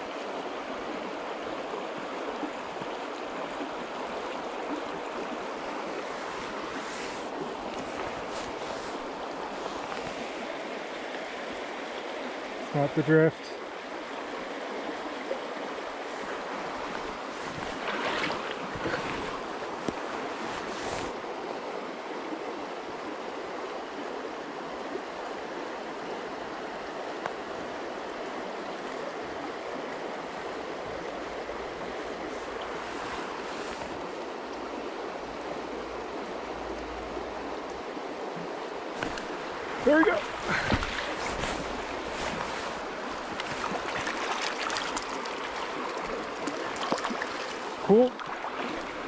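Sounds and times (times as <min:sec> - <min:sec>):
shallow stream flowing: 0:00.0 - 0:49.0.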